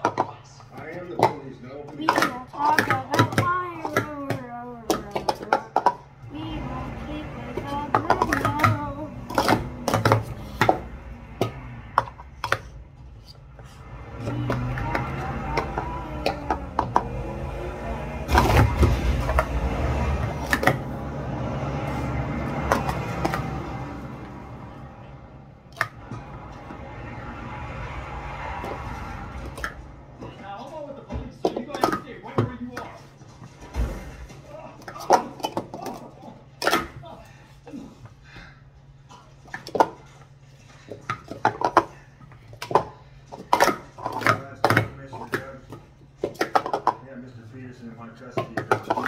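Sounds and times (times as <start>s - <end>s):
plastic cups clacking: 0.0s - 21.2s, 21.8s - 24.8s, 25.6s - 26.8s, 28.6s - 30.6s, 31.2s - 37.4s, 39.1s - 47.3s, 47.9s - 49.0s.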